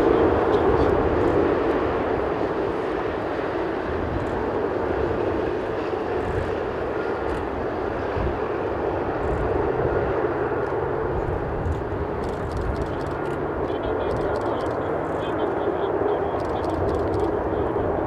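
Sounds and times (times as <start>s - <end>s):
wind buffeting microphone: 0.0s - 14.8s
jet engine noise: 0.0s - 18.0s.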